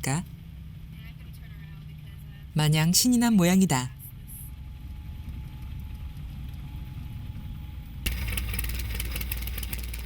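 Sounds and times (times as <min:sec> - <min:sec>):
light airplane engine rumbling: 0:00.0 - 0:08.6.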